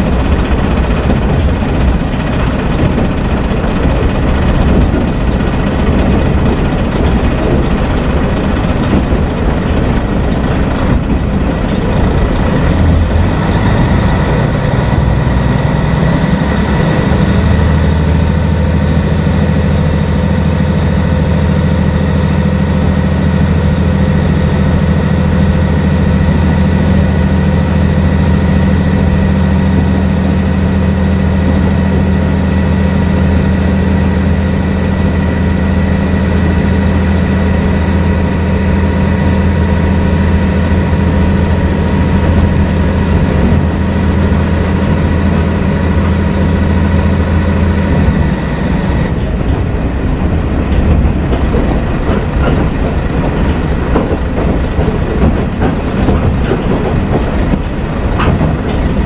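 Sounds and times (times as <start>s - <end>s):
diesel railcar engine drone: 0.0s - 59.0s
wheels rumbling on track: 0.0s - 59.0s.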